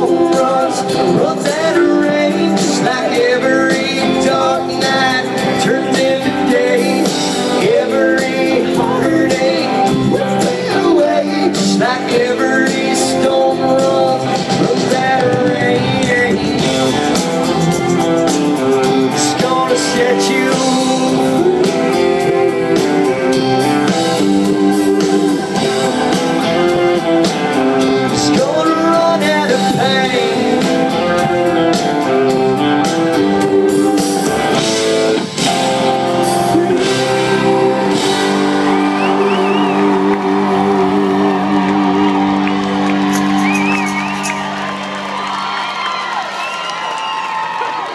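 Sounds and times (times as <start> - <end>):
lead guitar lines: 0.0 - 45.7
country rock band playing: 0.0 - 47.9.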